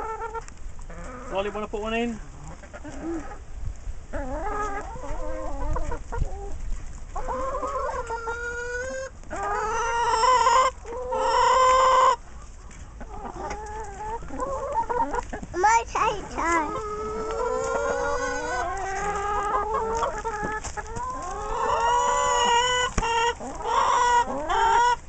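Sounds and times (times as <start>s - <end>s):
hens clucking: 0.0s - 25.0s.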